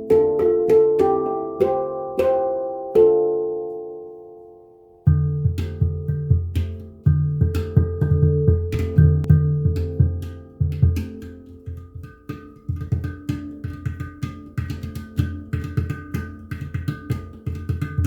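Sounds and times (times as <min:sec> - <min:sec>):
handpan playing: 0:00.0 - 0:18.0.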